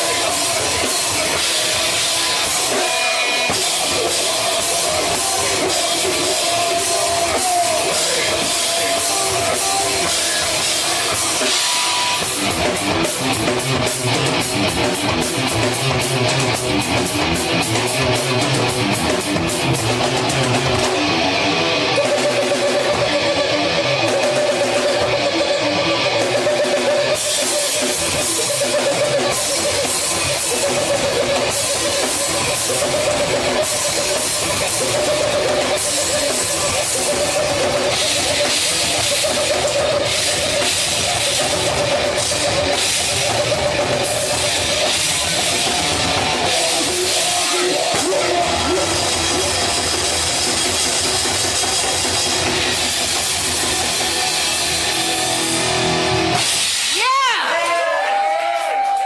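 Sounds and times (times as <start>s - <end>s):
drum kit: 0.0s - 59.0s
electric guitar: 0.0s - 59.0s.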